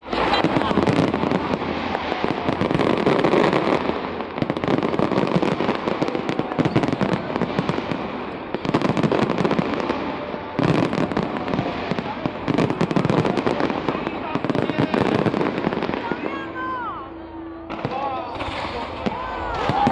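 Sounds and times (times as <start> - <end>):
fireworks bangs and crackles: 0.0 - 19.9.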